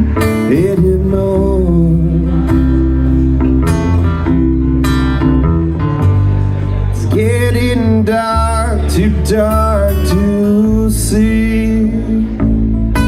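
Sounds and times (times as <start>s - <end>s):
low bass: 0.0s - 13.0s
strummed acoustic guitar: 0.0s - 13.0s.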